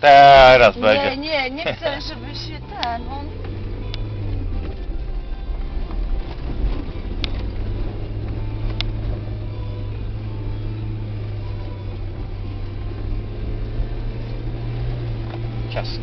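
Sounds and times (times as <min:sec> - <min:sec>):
car engine running: 0:00.0 - 0:16.0
tyre and road noise: 0:00.0 - 0:16.0.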